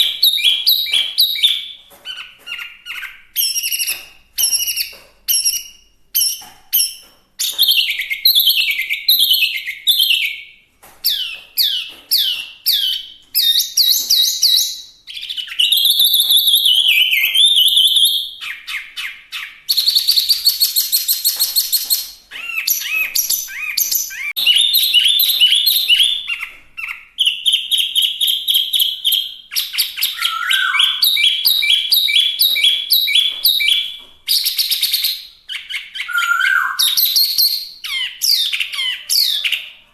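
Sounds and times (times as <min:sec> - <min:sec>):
bird singing varied song: 0:00.0 - 0:39.8.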